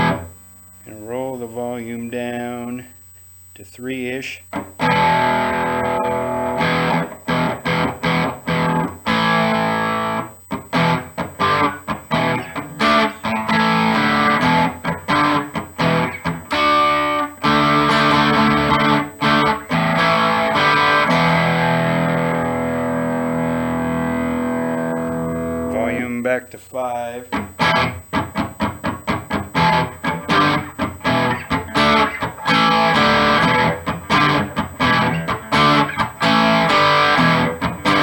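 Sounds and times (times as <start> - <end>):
distorted electric guitar chords: 0.0 - 38.0.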